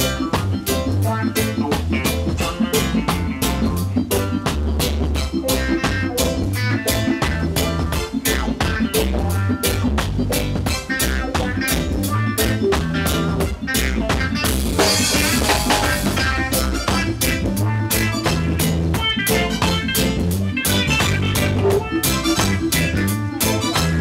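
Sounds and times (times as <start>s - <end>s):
drum kit beat: 0.0s - 24.0s
electric bass line: 0.0s - 24.0s
live band instrumental: 0.0s - 24.0s.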